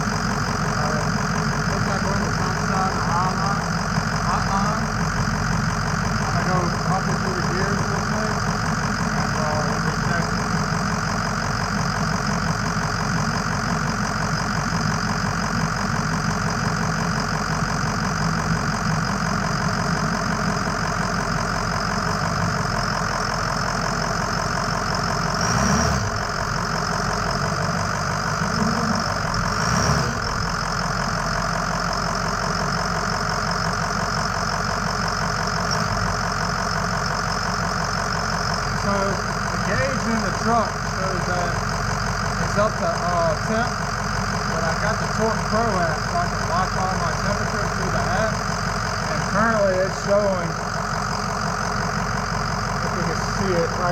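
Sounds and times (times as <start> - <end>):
pickup engine idling: 0.0 - 53.9.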